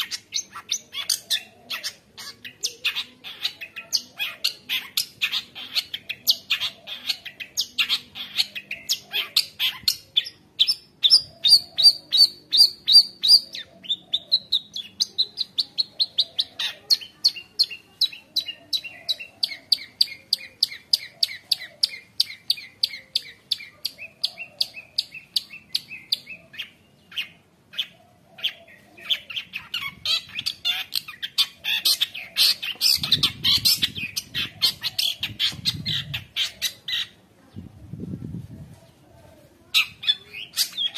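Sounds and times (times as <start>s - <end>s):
harsh bird chatter: 0.0s - 37.3s, 39.7s - 40.9s.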